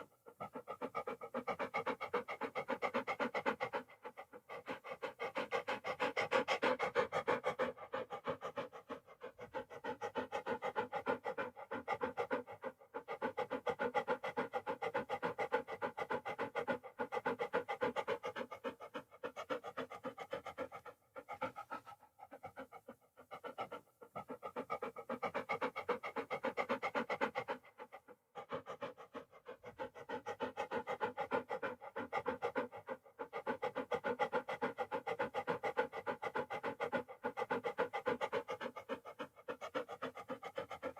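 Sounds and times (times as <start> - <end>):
dog panting rapidly: 0.0 - 40.9.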